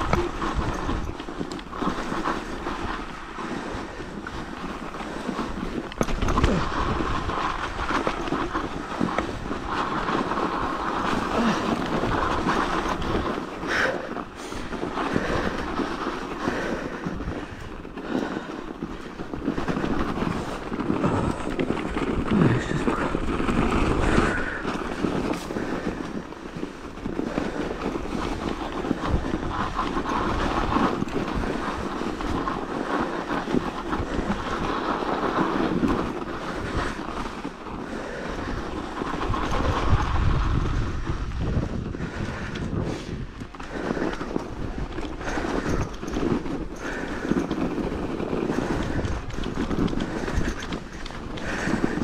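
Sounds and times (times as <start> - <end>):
bike clicks and rattles: 0.0 - 52.0
tyres rolling over snow: 0.0 - 52.0
wind buffeting microphone: 0.0 - 52.0.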